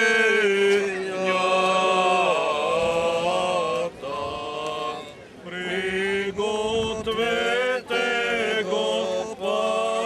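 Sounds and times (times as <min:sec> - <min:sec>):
men chanting a hymn: 0:00.0 - 0:10.0.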